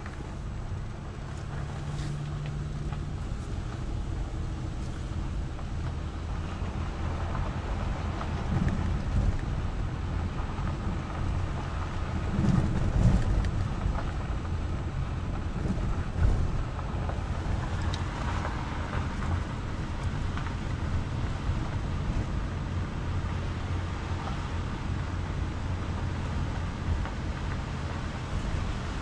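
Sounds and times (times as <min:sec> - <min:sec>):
engine and tyres on gravel: 0:00.0 - 0:29.0.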